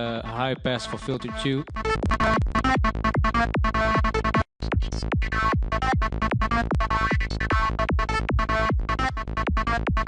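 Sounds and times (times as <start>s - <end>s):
kick drum beat: 1.8s - 10.0s.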